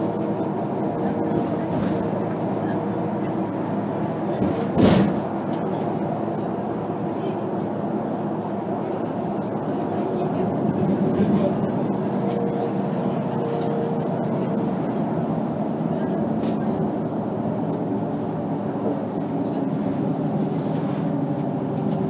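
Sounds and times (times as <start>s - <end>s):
bus engine and driving drone: 0.0s - 22.0s.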